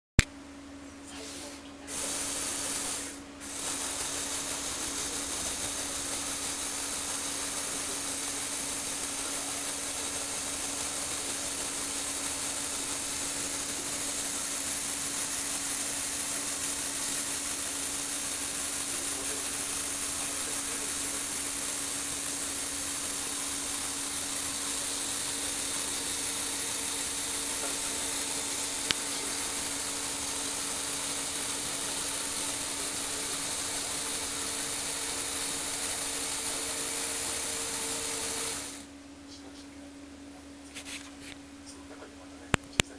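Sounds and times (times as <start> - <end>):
small electric motor whirring: 1.2 - 38.9.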